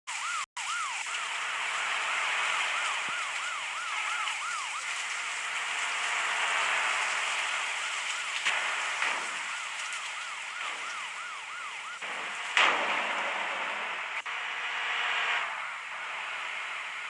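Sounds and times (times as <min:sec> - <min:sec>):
warbling siren-like tone: 0:00.1 - 0:17.0.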